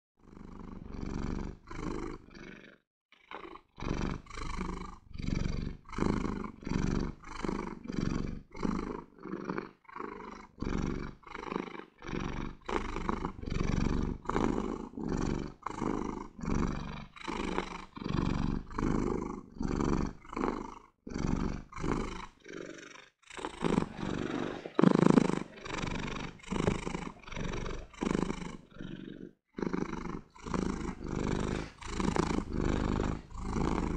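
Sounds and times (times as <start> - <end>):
cat purring: 0.2 - 33.9.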